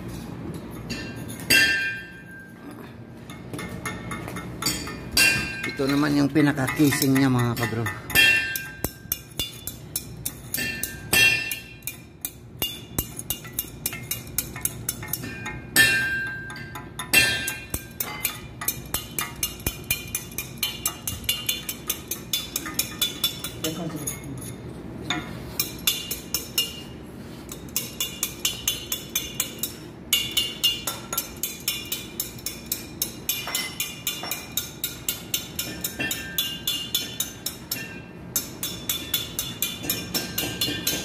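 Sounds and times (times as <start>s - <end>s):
metal-on-metal tapping: 3.2s - 41.0s.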